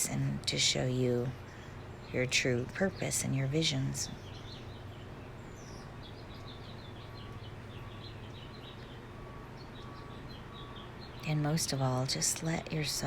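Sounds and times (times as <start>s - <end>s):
low background noise: 0.0s - 13.0s
small birds chirping: 0.0s - 13.0s.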